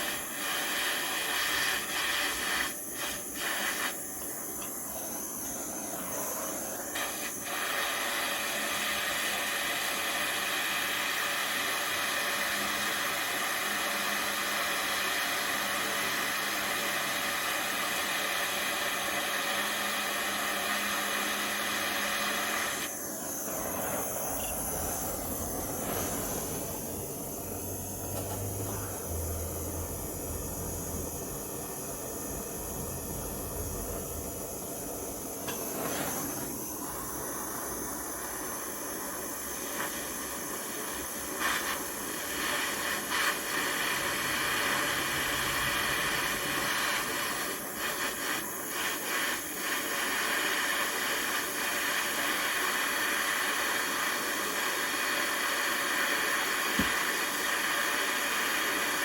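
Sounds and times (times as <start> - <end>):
flame hissing and rushing: 0.0 - 59.0.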